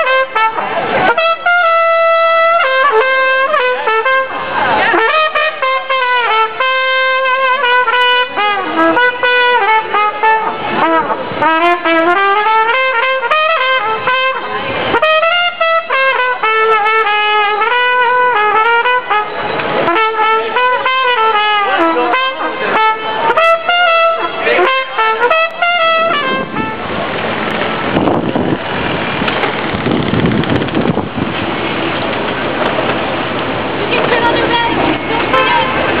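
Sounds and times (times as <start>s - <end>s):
trumpet playing a tune: 0.0s - 27.9s, 33.9s - 36.0s.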